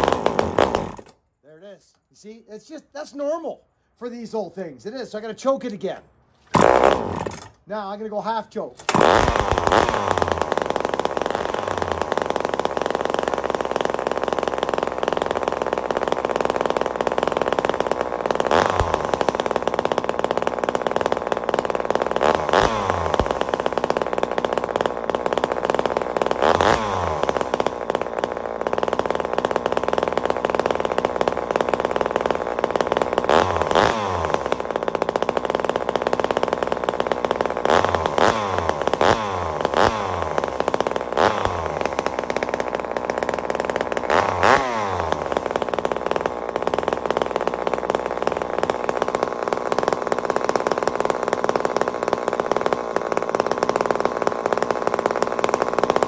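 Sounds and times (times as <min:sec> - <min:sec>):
chainsaw engine running: 0:00.0 - 0:56.0.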